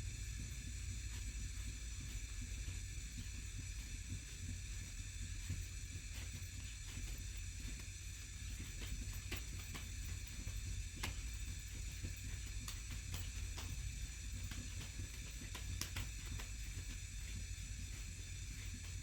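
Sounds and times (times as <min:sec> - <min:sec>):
small crackles and pops: 0:00.1 - 0:19.0.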